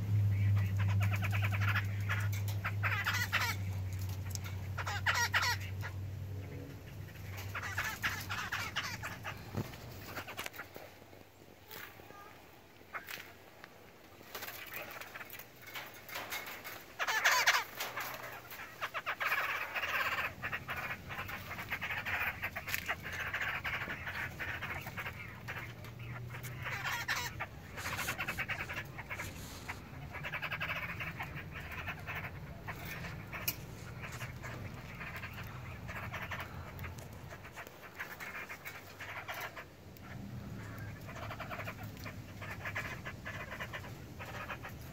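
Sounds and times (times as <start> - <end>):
young laughingthrushes calling: 0.0 - 44.9.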